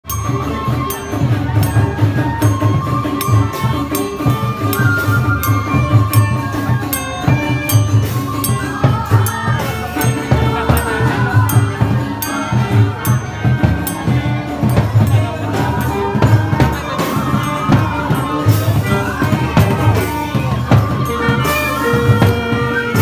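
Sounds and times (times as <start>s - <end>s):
street band playing: 0.0s - 23.0s.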